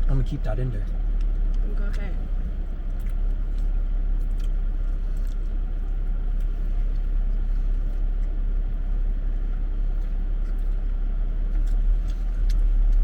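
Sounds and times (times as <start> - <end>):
car low rumble: 0.0 - 13.0.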